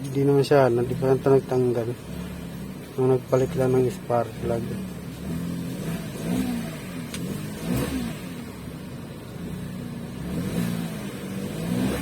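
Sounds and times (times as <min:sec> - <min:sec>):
car engine revving: 0:00.6 - 0:12.0.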